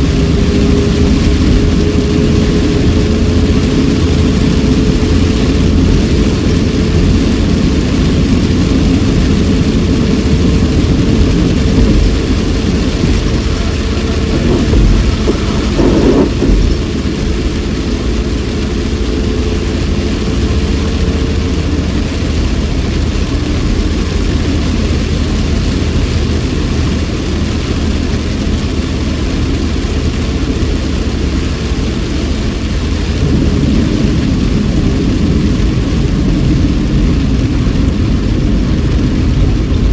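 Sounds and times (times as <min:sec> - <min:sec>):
car engine and tyre rumble: 0:00.0 - 0:39.9
rain and spray hissing: 0:00.0 - 0:39.9.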